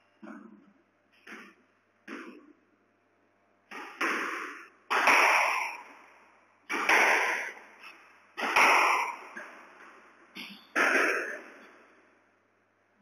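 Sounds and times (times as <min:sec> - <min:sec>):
squash ball striking rackets and walls: 0:00.2 - 0:02.6, 0:03.6 - 0:11.9.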